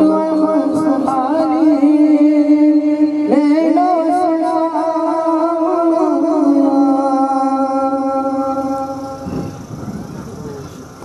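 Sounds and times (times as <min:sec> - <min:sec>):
man singing a chant: 0:00.0 - 0:09.3.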